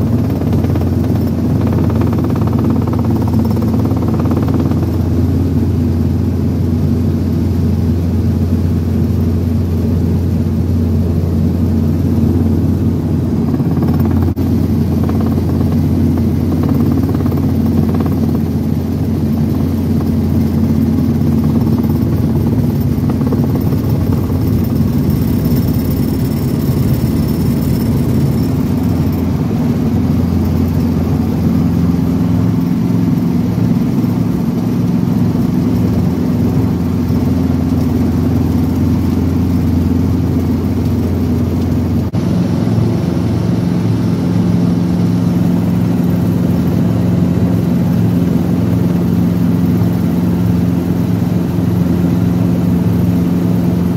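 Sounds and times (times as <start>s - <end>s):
helicopter engine and rotor drone: 0.0s - 53.9s.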